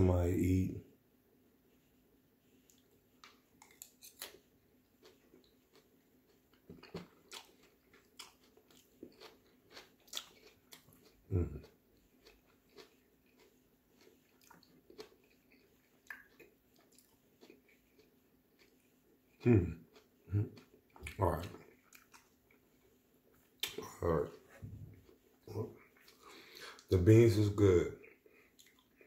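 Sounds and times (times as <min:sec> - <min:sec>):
man chewing crunchy salad: 0:01.7 - 0:26.9, 0:28.0 - 0:29.0.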